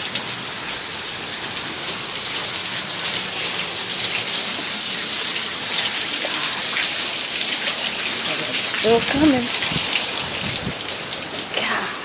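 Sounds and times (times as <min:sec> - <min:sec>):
heavy rain pouring: 0:00.0 - 0:12.0
rushing floodwater: 0:00.0 - 0:12.0.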